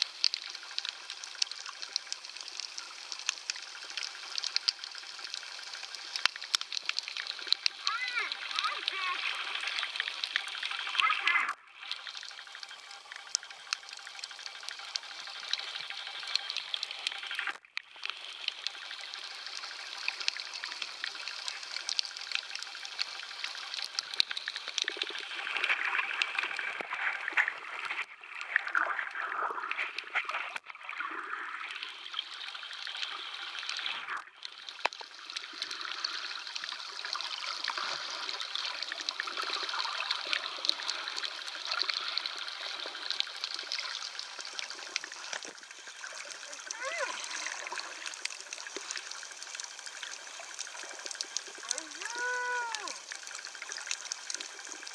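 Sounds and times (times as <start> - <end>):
water washing and gurgling: 0.0 - 54.9.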